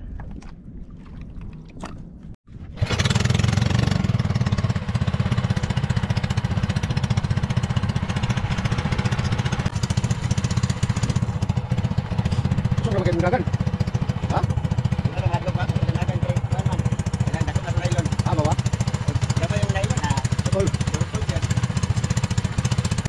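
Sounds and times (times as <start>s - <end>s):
small boat engine puttering: 1.7s - 23.0s.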